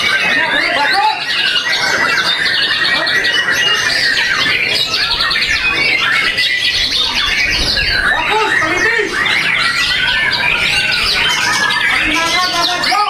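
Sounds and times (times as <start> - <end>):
bird singing whistles and chatter: 0.0 - 13.0.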